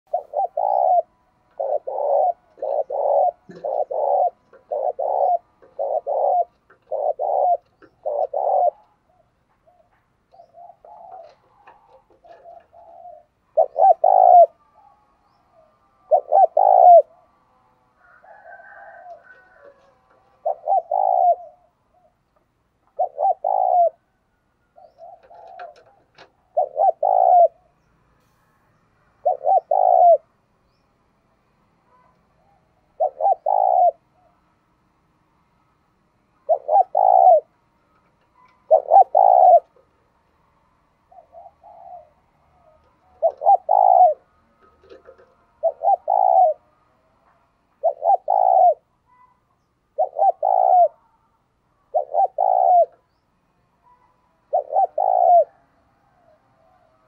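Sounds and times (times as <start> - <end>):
dove cooing: 0.1 - 27.8, 29.1 - 30.4, 31.9 - 34.7, 36.2 - 39.9, 40.5 - 53.2, 53.8 - 57.0.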